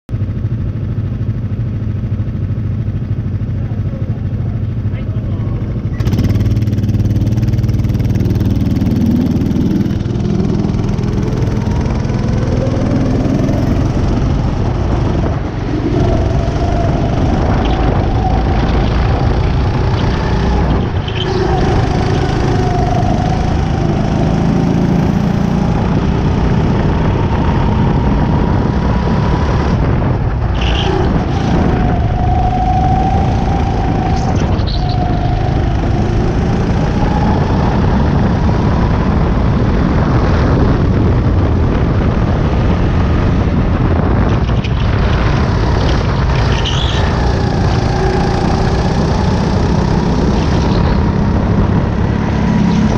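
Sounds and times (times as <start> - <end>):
kart engine revving: 2.7 - 52.9
wind rushing over camera: 5.9 - 52.9.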